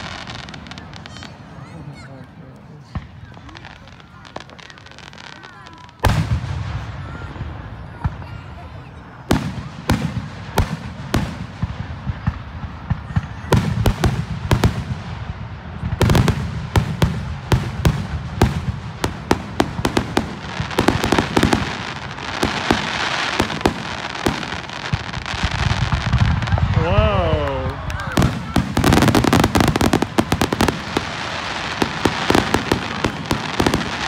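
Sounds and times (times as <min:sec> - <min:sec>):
firework bangs and pops: 0:00.0 - 0:01.5, 0:02.2 - 0:34.0
firework crackling: 0:00.0 - 0:34.0.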